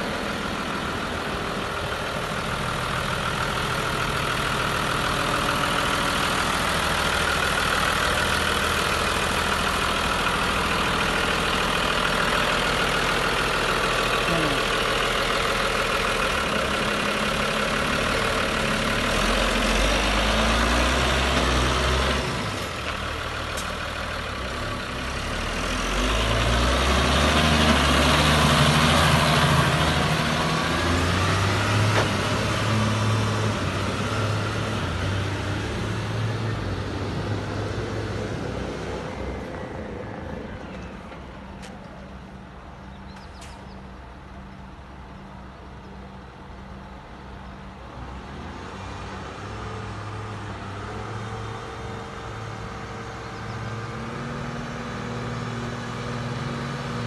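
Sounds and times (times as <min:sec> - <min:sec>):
tractor diesel engine passing: 0:00.0 - 0:57.0.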